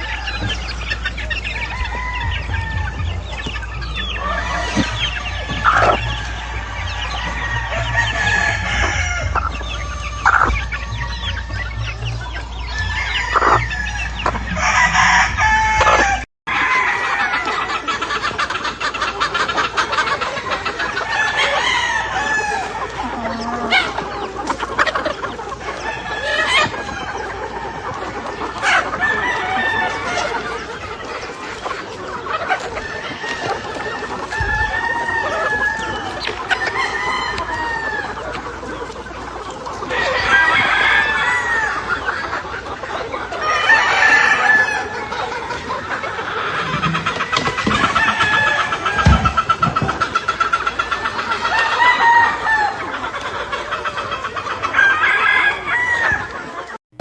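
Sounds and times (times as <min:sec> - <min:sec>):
roosters crowing: 0:00.0 - 0:56.8
chickens clucking: 0:00.0 - 0:57.0.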